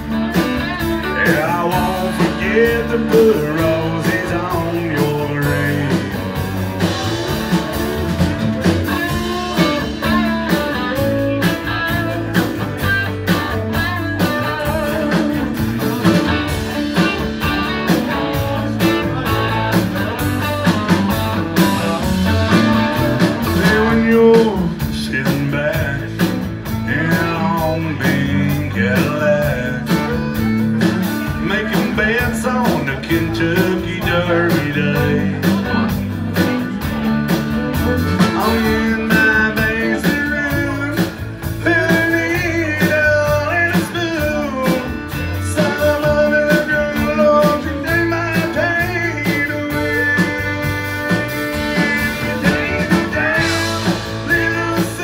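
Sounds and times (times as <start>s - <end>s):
country-rock band playing: 0.0s - 55.0s.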